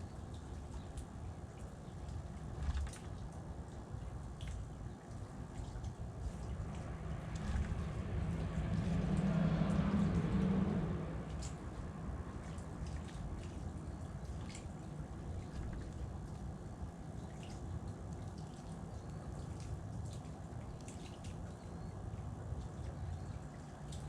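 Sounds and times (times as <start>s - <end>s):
low background rumble: 0.0s - 24.0s.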